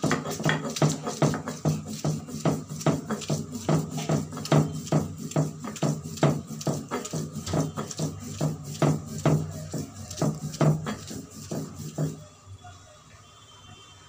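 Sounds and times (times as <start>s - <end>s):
stone knocking and scraping on stone: 0.0s - 12.2s.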